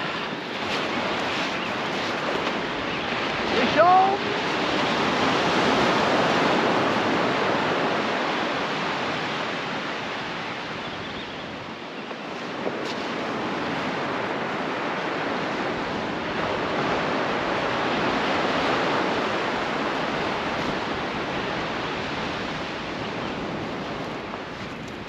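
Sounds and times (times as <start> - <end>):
surf breaking on beach: 0.0 - 25.0
wind noise: 0.0 - 25.0.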